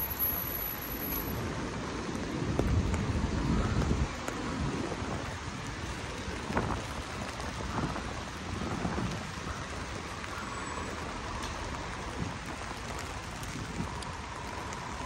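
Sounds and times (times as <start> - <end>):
rain hissing on a street: 0.0 - 15.0.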